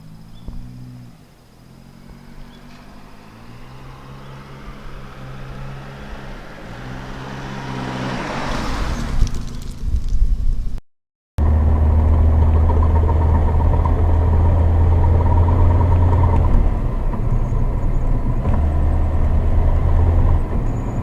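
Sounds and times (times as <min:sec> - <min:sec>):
car engine humming: 0:00.0 - 0:09.8, 0:11.4 - 0:21.0
road noise rumble: 0:00.0 - 0:10.8, 0:11.4 - 0:21.0.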